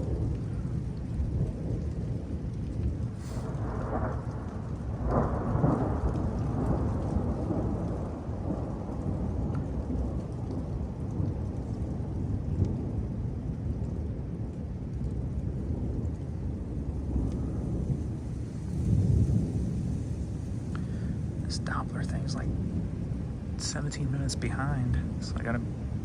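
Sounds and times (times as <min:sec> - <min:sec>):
rain falling: 0:00.0 - 0:26.0
thunder rumbling: 0:00.0 - 0:26.0.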